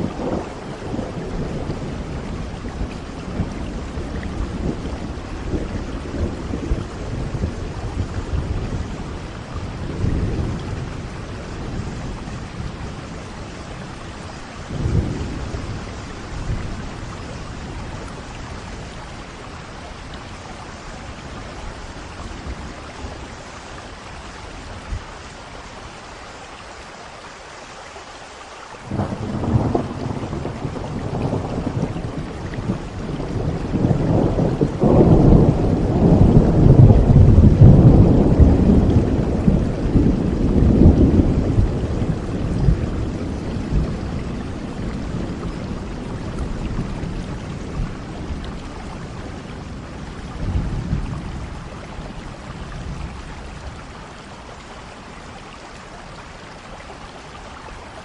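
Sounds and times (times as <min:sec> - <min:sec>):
thunder rumbling: 0:00.0 - 0:25.8, 0:28.8 - 0:55.2
steady rain: 0:00.0 - 0:58.0.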